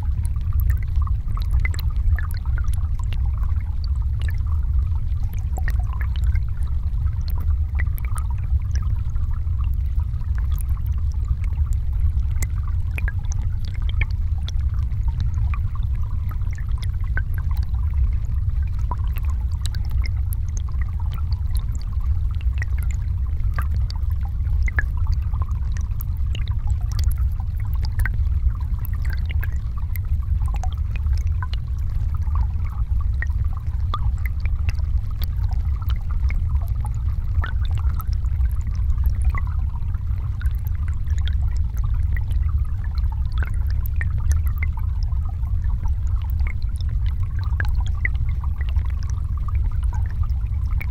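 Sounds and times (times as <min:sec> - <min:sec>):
faint scattered ticks: 0:00.0 - 0:50.9
river flowing heard underwater: 0:00.0 - 0:50.9.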